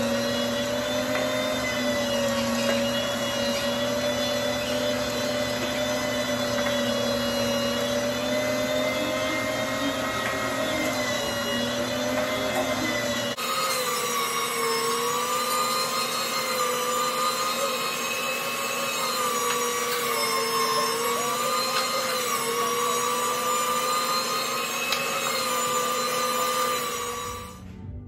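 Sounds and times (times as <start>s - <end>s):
electric meat grinder motor whine: 0.0s - 27.7s.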